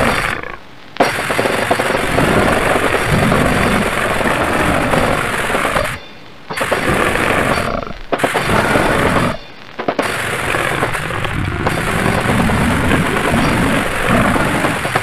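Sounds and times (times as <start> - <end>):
harsh distorted noise music: 0.0 - 15.0.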